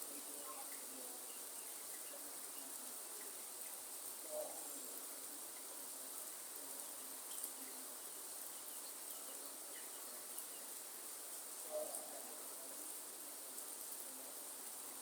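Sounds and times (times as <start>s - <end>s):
faint bird chirps: 0.0s - 12.9s
rain hissing: 0.0s - 15.0s.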